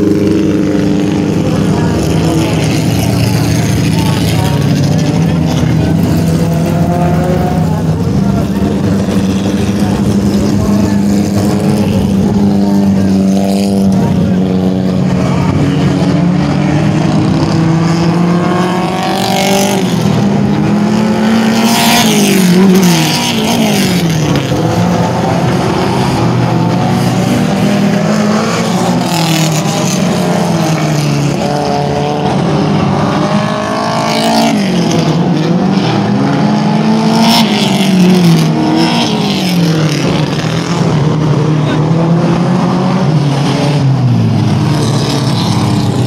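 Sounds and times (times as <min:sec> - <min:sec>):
race car engines revving: 0:00.0 - 0:46.0.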